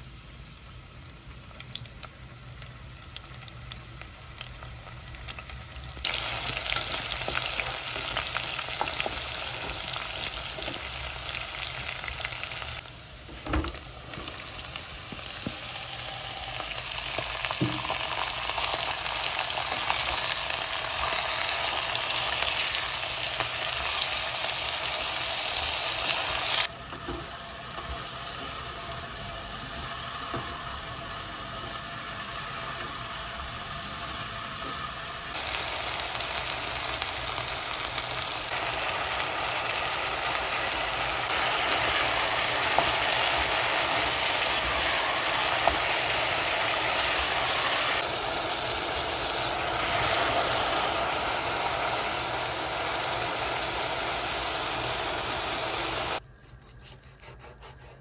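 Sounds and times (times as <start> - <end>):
food sizzling in a pan: 0.0 - 56.2.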